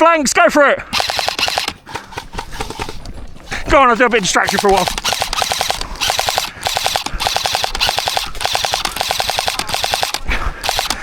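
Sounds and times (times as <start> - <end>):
airsoft gun full-auto bursts: 0.9 - 3.0, 4.0 - 11.0.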